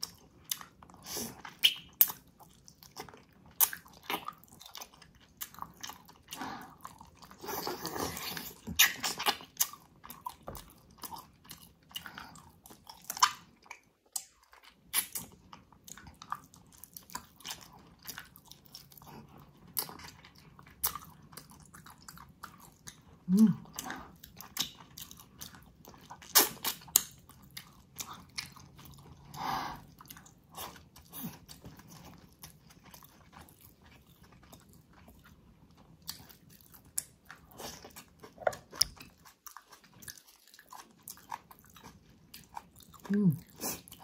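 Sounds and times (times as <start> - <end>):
chewing and biting: 0.0 - 44.0.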